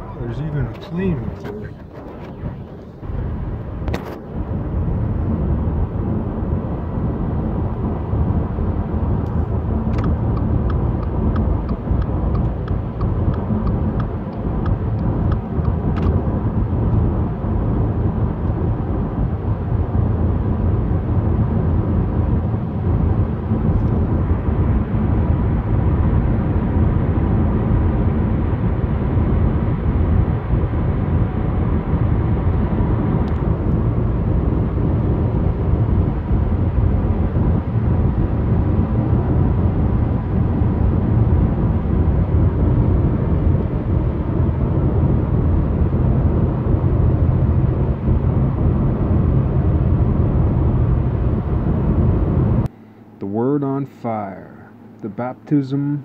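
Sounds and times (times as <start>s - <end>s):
car road and wind noise: 0.0s - 54.1s
faint steady whine: 0.0s - 56.0s.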